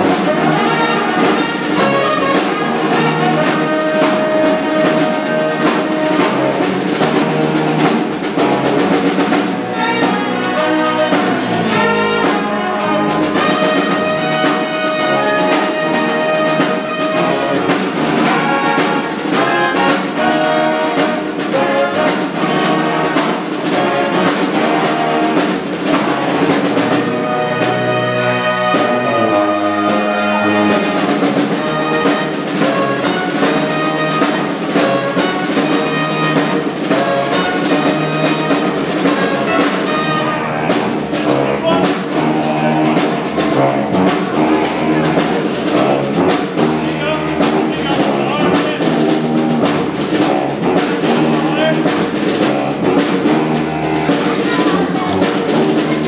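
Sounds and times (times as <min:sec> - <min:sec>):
brass band playing: 0:00.0 - 0:56.0
snare drum: 0:00.0 - 0:56.0.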